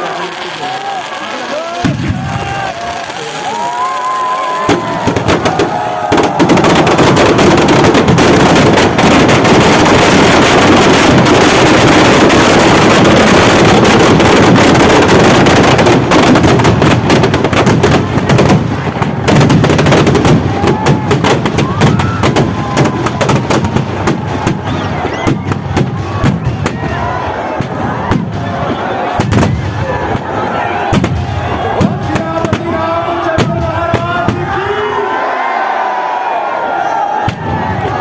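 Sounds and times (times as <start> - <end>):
firecrackers crackling: 0.0 - 34.8.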